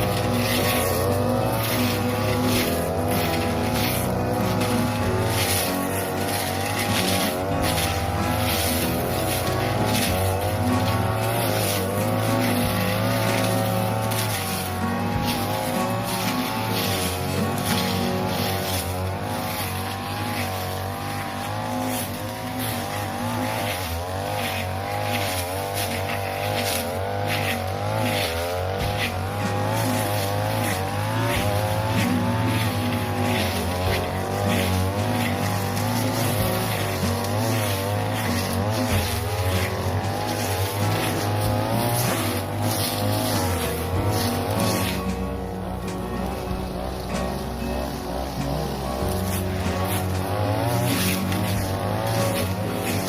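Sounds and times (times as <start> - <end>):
brush cutter engine at high revs: 0.0 - 53.0
grass swishing against blade: 0.0 - 53.0.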